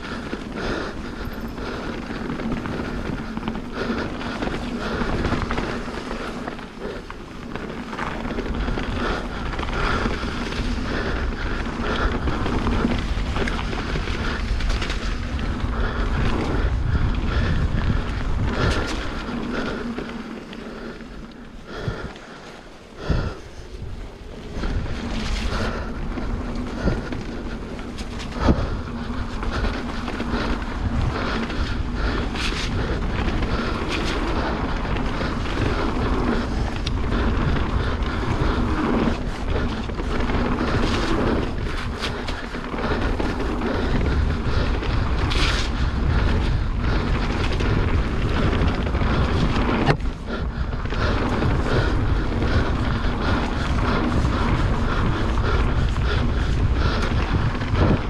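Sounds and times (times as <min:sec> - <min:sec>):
wind rushing over microphone: 0:00.0 - 0:22.3, 0:22.9 - 0:58.0
bike rattling over bumps: 0:00.0 - 0:58.0
bike tyres rolling on dirt: 0:00.0 - 0:58.0.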